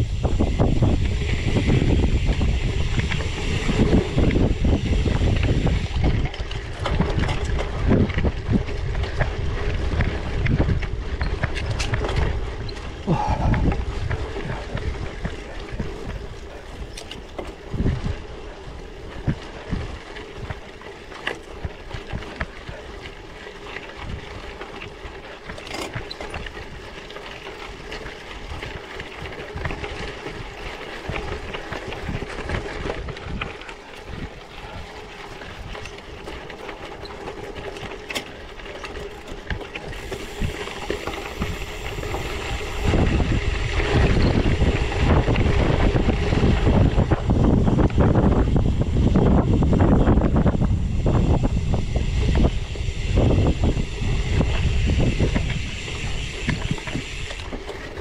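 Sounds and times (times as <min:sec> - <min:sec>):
bicycle tyre rumble: 0:00.0 - 0:58.0
bike clicks and rattles: 0:00.0 - 0:58.0
wind noise on microphone: 0:00.0 - 0:58.0.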